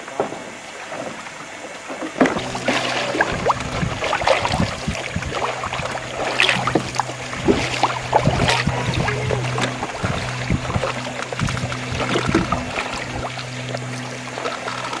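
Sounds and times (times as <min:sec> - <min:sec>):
steady low hum: 0:00.0 - 0:15.0
water splashing and dripping: 0:02.0 - 0:15.0.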